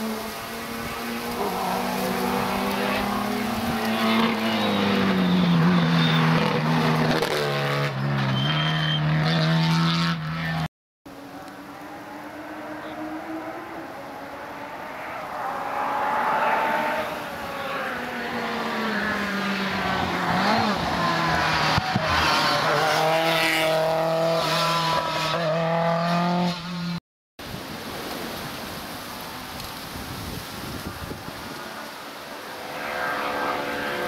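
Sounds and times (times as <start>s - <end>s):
rally car engine at high revs: 0.0s - 27.0s, 31.6s - 34.0s.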